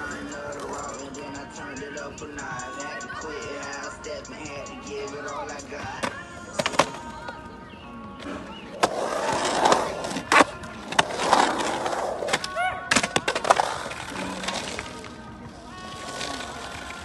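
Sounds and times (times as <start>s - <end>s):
skateboard clacks: 0.0s - 7.4s, 8.2s - 17.0s
skateboard wheels rolling on concrete: 0.0s - 17.0s.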